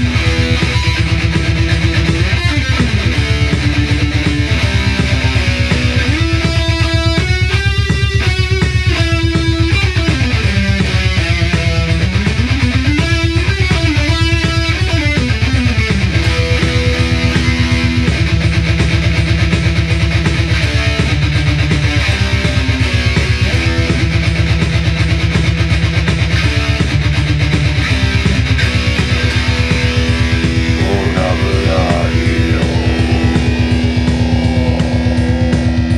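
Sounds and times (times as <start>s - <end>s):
distorted electric guitar riff: 0.0s - 35.9s.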